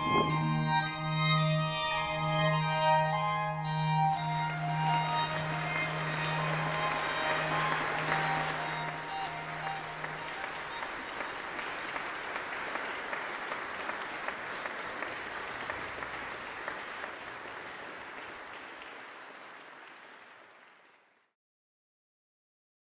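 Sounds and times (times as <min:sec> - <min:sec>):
audience applauding: 0:00.0 - 0:02.4, 0:03.2 - 0:21.3.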